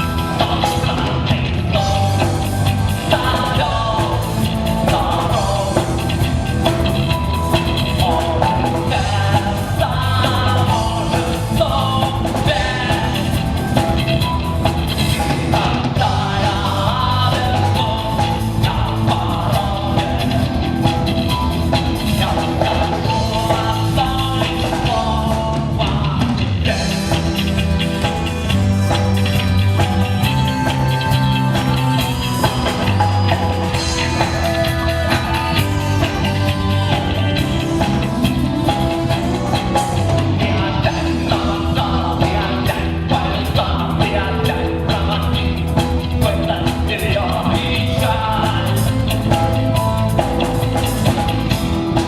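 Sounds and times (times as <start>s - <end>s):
person singing: 0.0s - 52.0s
rock band playing: 0.0s - 52.0s.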